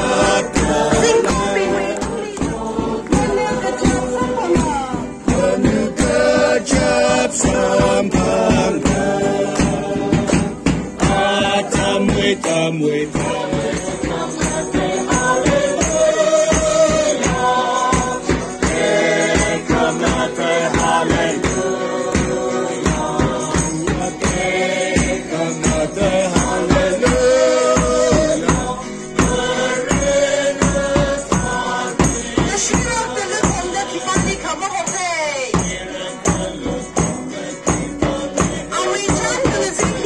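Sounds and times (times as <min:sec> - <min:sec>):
crowd singing: 0:00.0 - 0:40.0
drum kit beat: 0:00.0 - 0:40.0
jingling percussion: 0:00.0 - 0:40.0.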